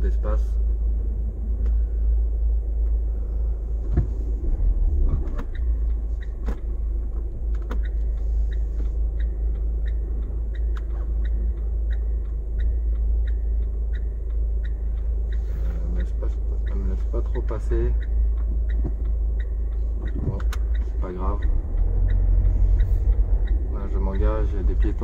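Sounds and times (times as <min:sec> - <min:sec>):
car engine and road rumble: 0:00.0 - 0:25.0
turn signal ticking: 0:00.0 - 0:25.0.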